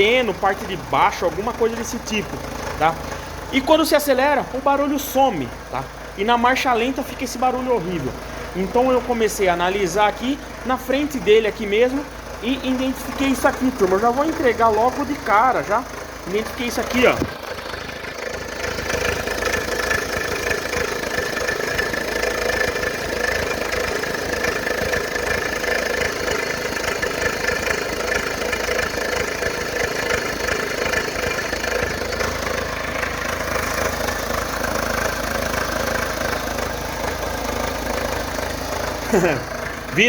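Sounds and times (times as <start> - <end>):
car engine idling with knocking: 0.0 - 40.0.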